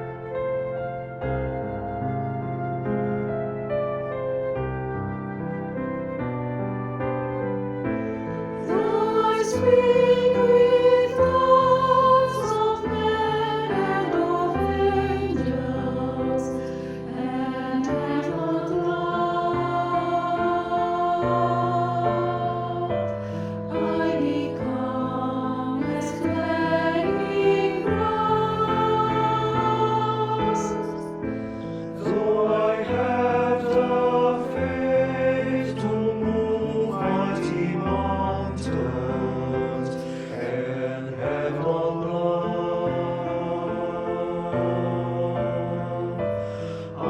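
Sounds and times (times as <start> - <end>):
choir singing in harmony: 0.0 - 47.0.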